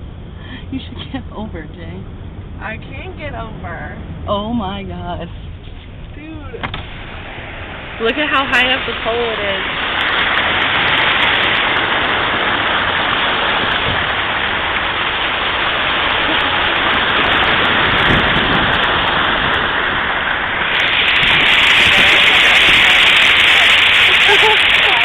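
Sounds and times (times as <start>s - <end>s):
water rushing around car: 0.0s - 25.0s.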